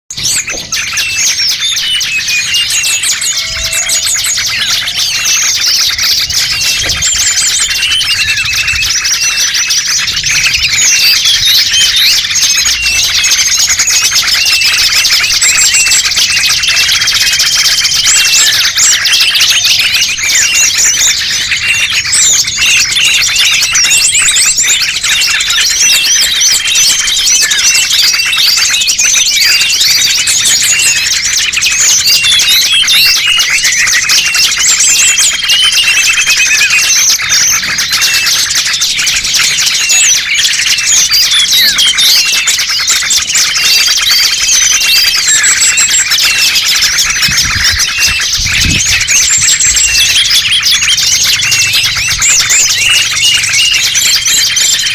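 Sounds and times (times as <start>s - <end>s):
small birds chirping and trilling: 0.1s - 54.9s.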